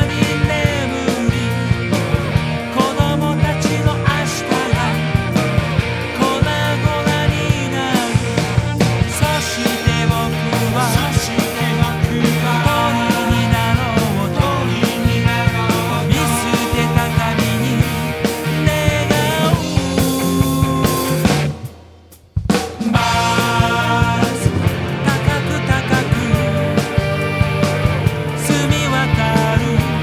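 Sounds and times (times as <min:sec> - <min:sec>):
bass guitar: 0:00.0 - 0:21.8, 0:22.9 - 0:30.0
electric guitars: 0:00.0 - 0:21.8, 0:22.8 - 0:30.0
drum kit beat: 0:00.0 - 0:30.0.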